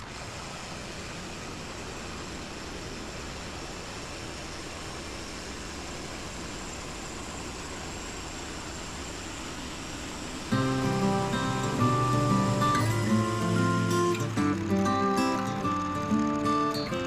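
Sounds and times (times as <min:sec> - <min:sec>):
gas engine running: 0:00.0 - 0:17.0.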